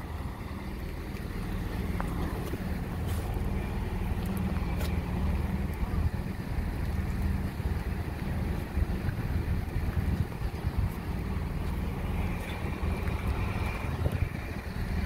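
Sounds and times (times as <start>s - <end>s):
train engine rumbling: 0.0s - 15.0s
wind buffeting microphone: 0.0s - 15.0s.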